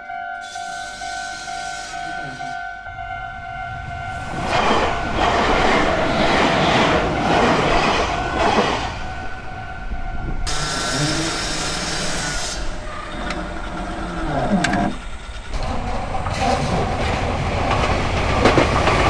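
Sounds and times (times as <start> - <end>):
level-crossing alarm ringing: 0.0 - 15.5
electric train passing: 0.0 - 19.0
train wheel clatter: 3.7 - 19.0.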